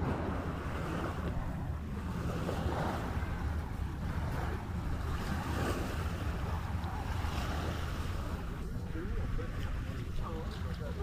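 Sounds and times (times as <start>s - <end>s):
small waves washing onto shore: 0.0s - 11.0s
wind rumbling on microphone: 0.0s - 11.0s.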